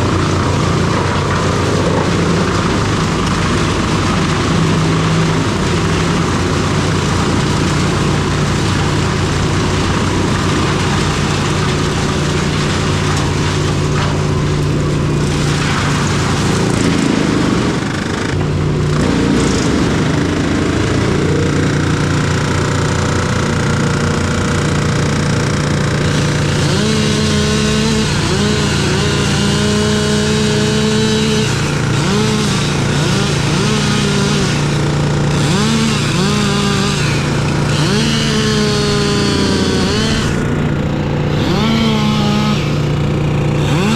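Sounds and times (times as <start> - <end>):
machinery engines revving: 0.0 - 43.9.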